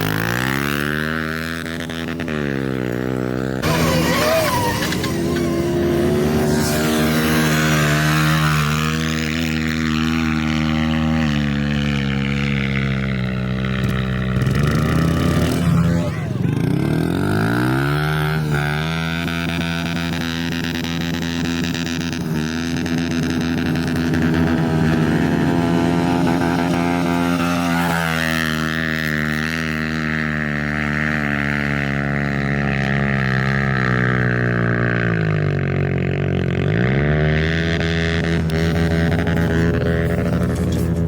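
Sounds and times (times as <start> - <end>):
small motorbike engine buzzing: 0.0 - 41.0.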